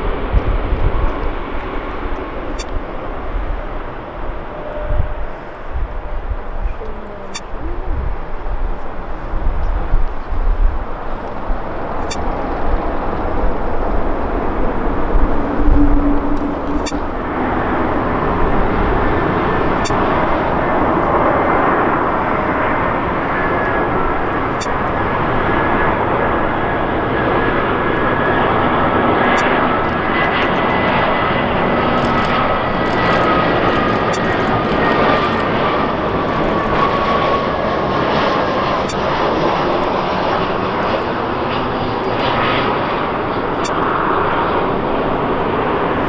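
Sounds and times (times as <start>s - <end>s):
airliner jet engines whining: 0.0s - 46.0s.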